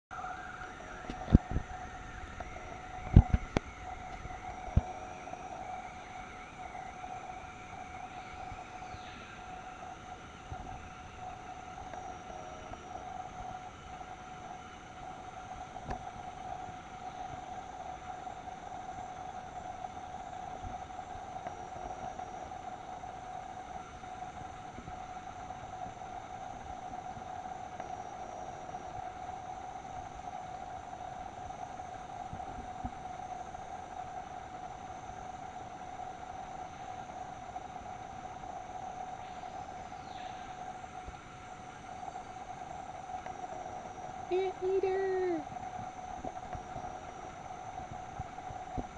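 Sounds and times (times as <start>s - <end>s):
continuous droning hum: 0.1s - 48.9s.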